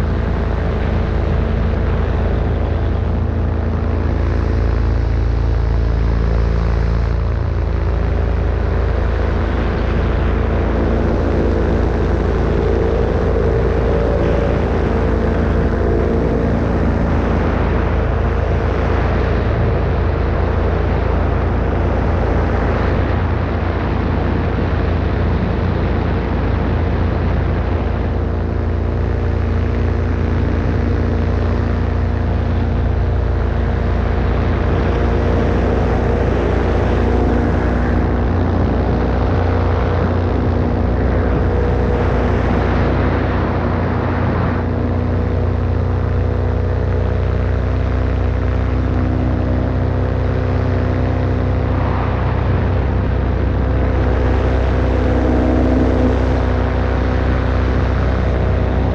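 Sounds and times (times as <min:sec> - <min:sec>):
paramotor engine and propeller: 0:00.0 - 0:58.9
wind rumbling on microphone: 0:00.0 - 0:58.9.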